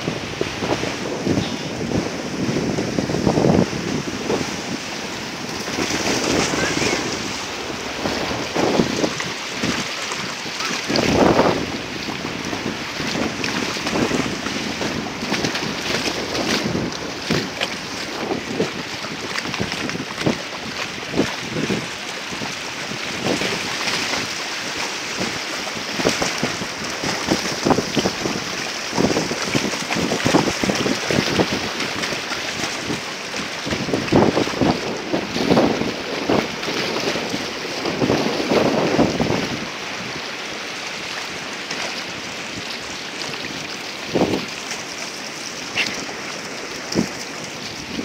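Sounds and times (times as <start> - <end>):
dogs splashing in water: 0.0 - 48.0
shallow surf rushing: 0.0 - 48.0
wind buffeting microphone: 0.0 - 48.0.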